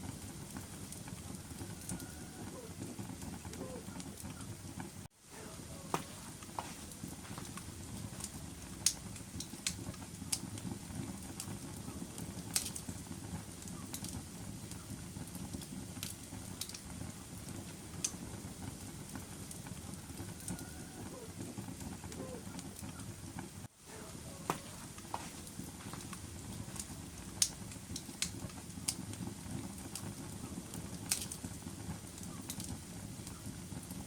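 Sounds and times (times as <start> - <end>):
fire crackling and popping: 0.0 - 34.0
wood fire rumbling: 0.0 - 34.0.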